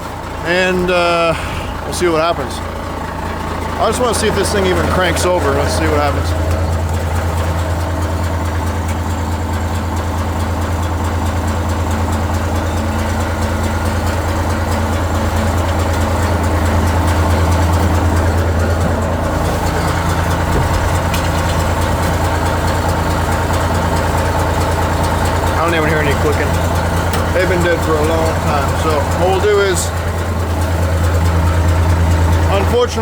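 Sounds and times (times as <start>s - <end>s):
large engine idling: 0.0s - 33.0s.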